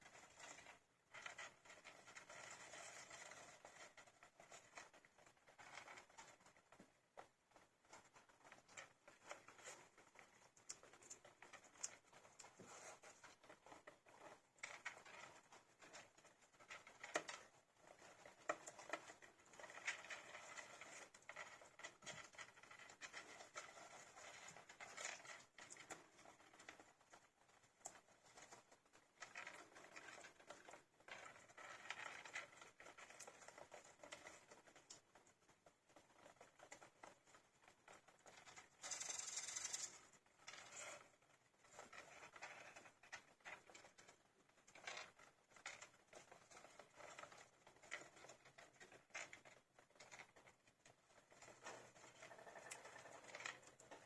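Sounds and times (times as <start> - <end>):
hamster pups scrabbling: 0.0 - 54.0.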